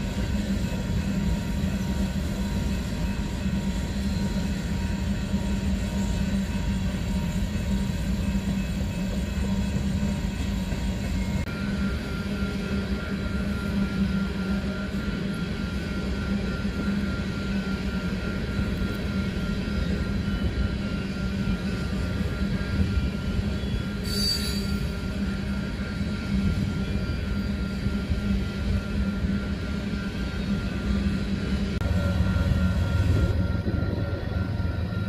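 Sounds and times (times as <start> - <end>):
high wheel squeal: 0.0 - 35.0
train wheels rumbling on rail: 0.0 - 35.0.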